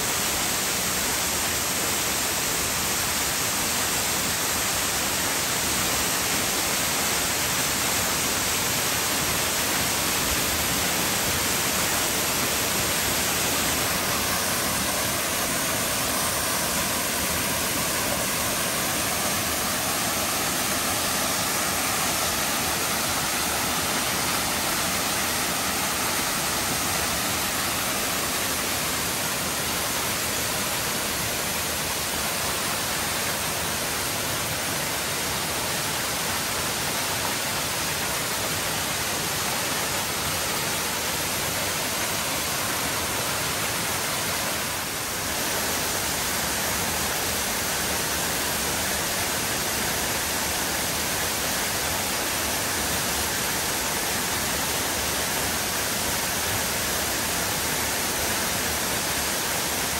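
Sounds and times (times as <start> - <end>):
waterfall rushing onto rocks: 0.0 - 59.9.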